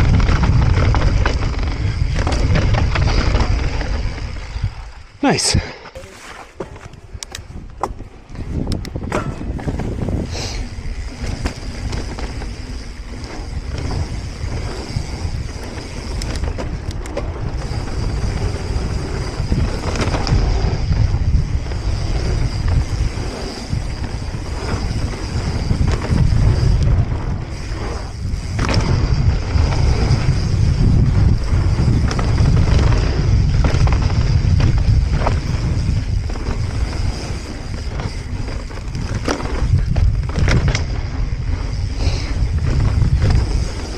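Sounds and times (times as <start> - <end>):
bike knocks and rattles: 0.0 - 4.8, 6.0 - 43.9
wind buffeting microphone: 0.0 - 5.8, 6.6 - 43.9.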